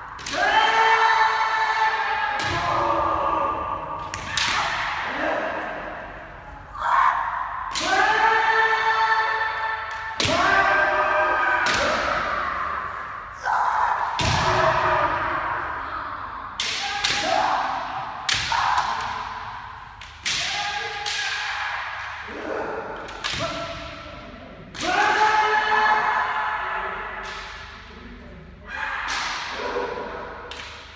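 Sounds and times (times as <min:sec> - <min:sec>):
people shouting: 0:00.0 - 0:24.0, 0:24.7 - 0:27.7, 0:28.6 - 0:30.6.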